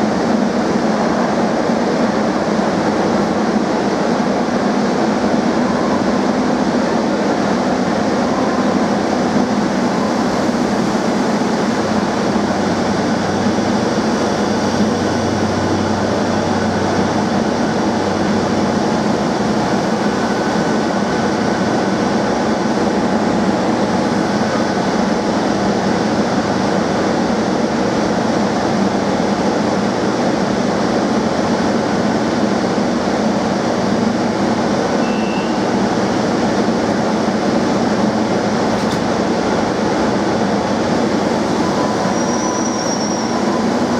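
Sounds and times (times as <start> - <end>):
train equipment hum and hiss: 0.0 - 43.9.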